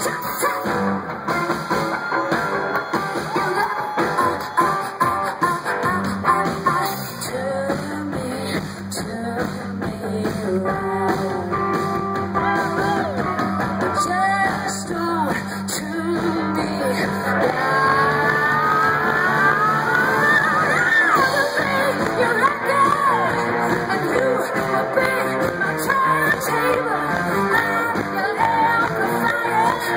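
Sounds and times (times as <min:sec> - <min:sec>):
woman singing: 0:00.0 - 0:00.9, 0:03.3 - 0:13.2, 0:13.8 - 0:29.9
live rock band playing: 0:00.0 - 0:29.9.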